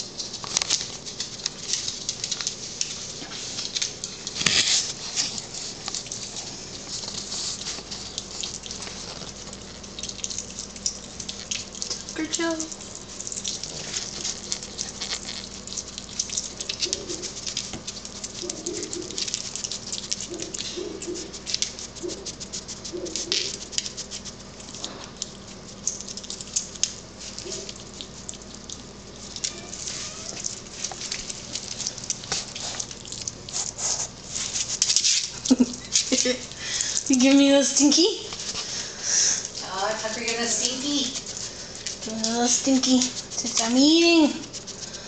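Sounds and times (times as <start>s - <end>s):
animal chewing wet smacking: 0.0s - 45.0s.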